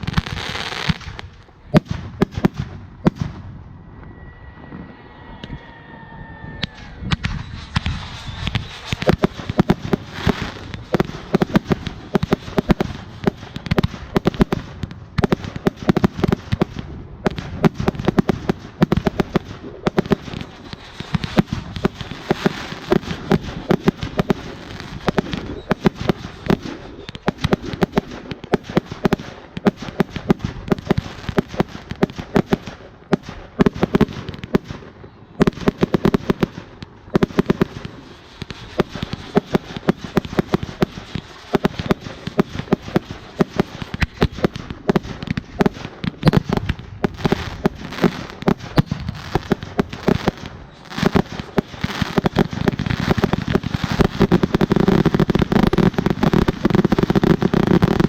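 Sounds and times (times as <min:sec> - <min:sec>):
fireworks popping and crackling: 0:00.0 - 0:03.8, 0:06.6 - 0:58.0.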